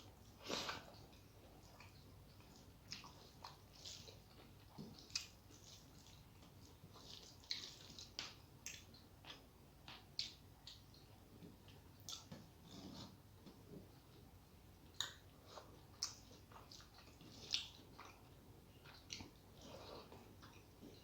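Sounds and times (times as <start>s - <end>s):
person chewing food: 0.4s - 21.0s.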